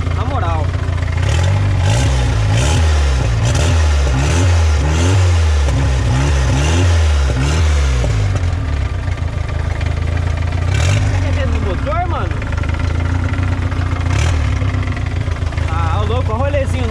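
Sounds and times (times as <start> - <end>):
car engine revving: 0.0 - 16.9
engine crackle: 0.0 - 16.9.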